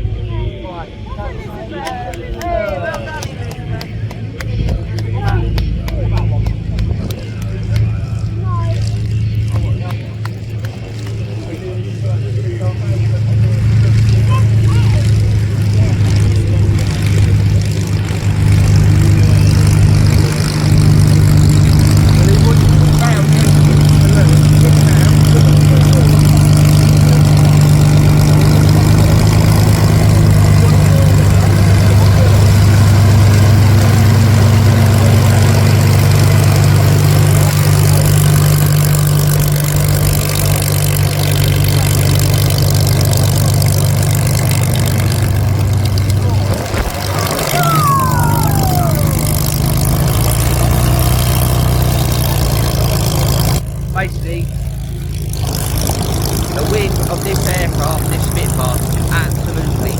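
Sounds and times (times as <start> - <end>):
propeller aircraft engine drone: 0.0 - 59.9.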